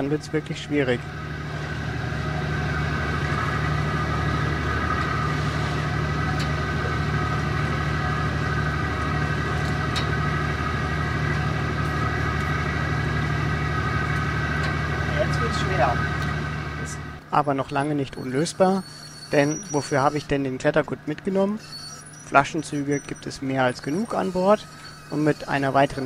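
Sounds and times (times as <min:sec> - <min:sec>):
idling engine drone: 0:00.0 - 0:26.0.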